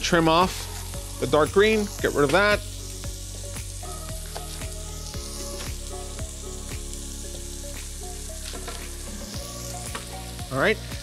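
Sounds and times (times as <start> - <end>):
bacon sizzling: 0.0 - 11.0.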